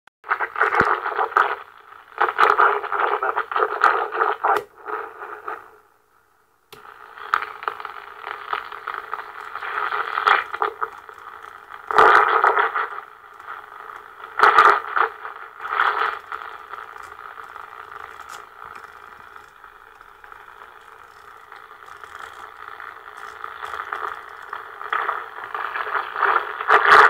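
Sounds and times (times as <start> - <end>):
crackly radio speaker audio: 0.2 - 27.0.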